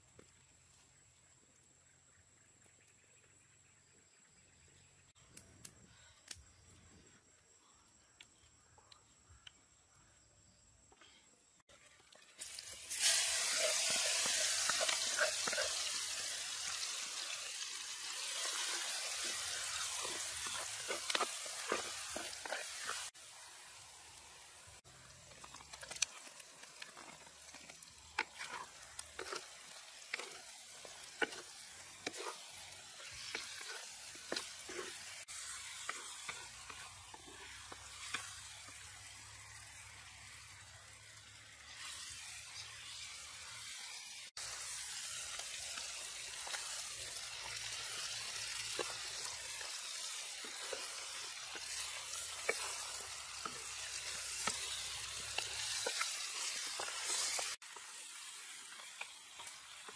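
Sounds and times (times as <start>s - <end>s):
food sizzling in hot oil: 11.7s - 59.9s.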